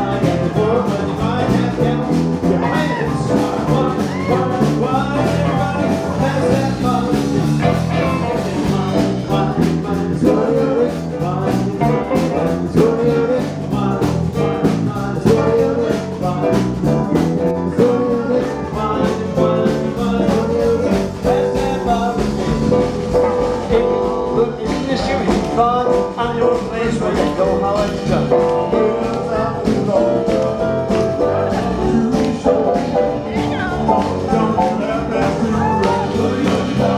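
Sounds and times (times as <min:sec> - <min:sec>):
drums: 0:00.0 - 0:36.9
electric bass: 0:00.0 - 0:36.9
keyboard: 0:00.0 - 0:36.9
man singing: 0:00.0 - 0:36.9.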